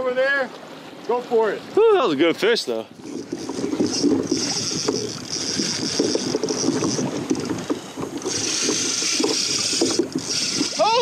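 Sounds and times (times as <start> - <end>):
water slapping against kayak hull: 0.0 - 11.0.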